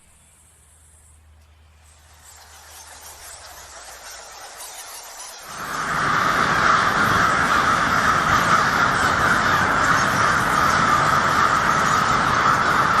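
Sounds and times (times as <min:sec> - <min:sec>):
bats screeching and chattering: 0:01.8 - 0:13.0.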